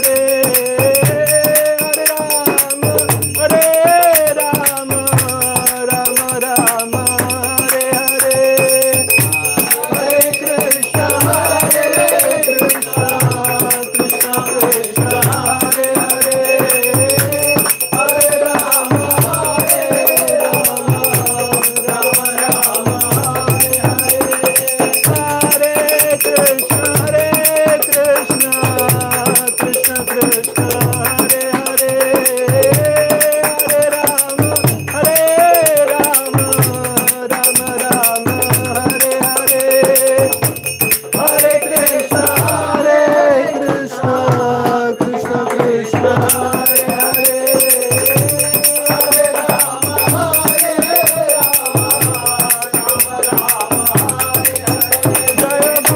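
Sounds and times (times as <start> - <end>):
hand cymbals ringing: 0.0 - 55.9
person singing a chant: 0.0 - 55.9.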